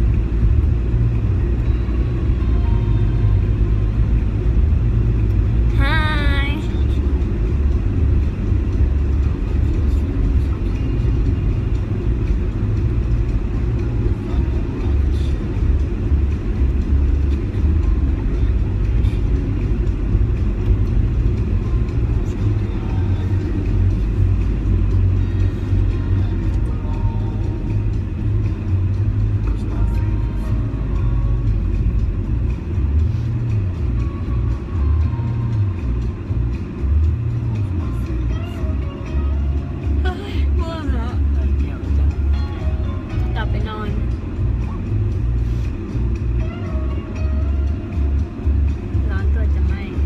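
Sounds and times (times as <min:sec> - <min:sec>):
car rumble from inside cabin: 0:00.0 - 0:50.0.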